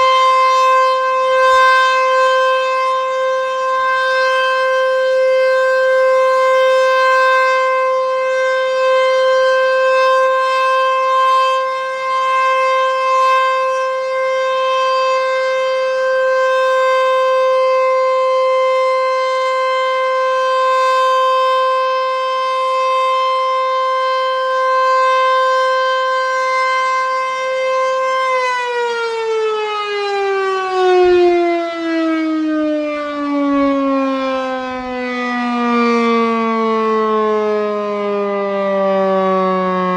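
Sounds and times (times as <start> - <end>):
siren winding down: 0.0 - 39.9
warning siren steady tone: 0.0 - 39.9.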